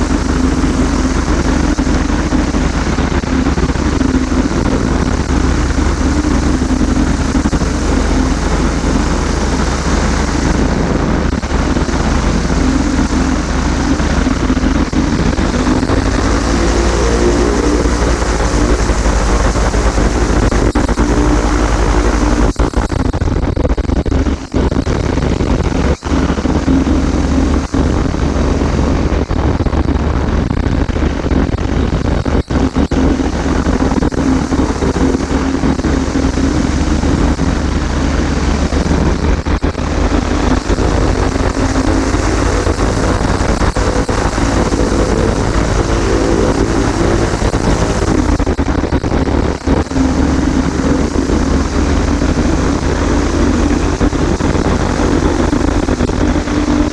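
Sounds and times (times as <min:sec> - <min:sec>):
light aircraft engine and propeller: 0:00.0 - 0:56.9
wind noise: 0:00.0 - 0:56.9.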